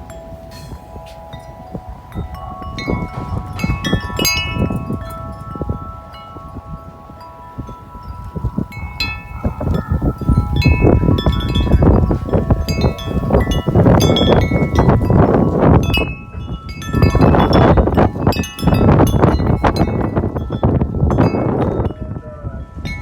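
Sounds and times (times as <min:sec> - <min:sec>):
wind buffeting microphone: 0:00.0 - 0:23.0
wind chime ringing: 0:00.0 - 0:23.0.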